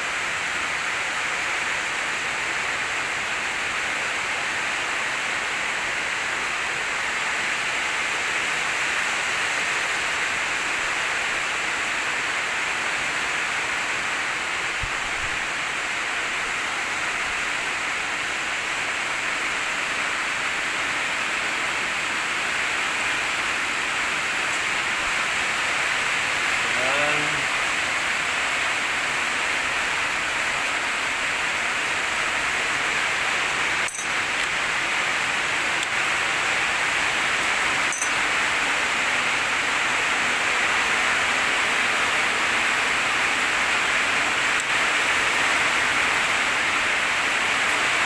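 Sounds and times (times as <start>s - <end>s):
rushing water: 0.0s - 48.0s.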